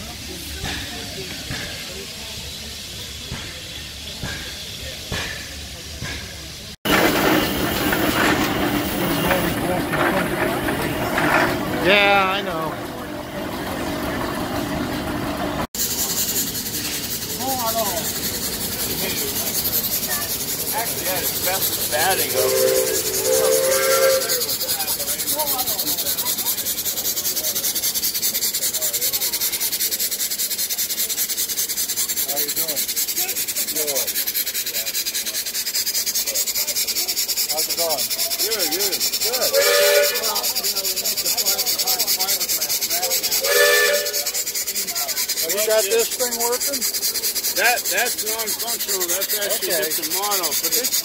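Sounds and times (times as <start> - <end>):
model steam engine chuffing: 0.0 - 51.0.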